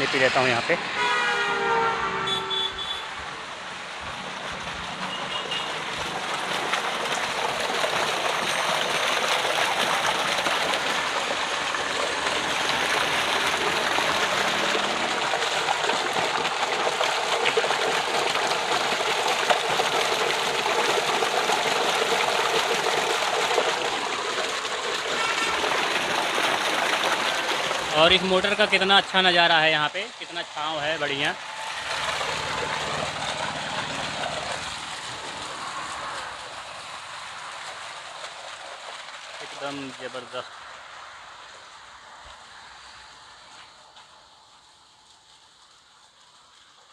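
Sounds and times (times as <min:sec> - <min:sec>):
water gushing into concrete tank: 0:00.0 - 0:46.9.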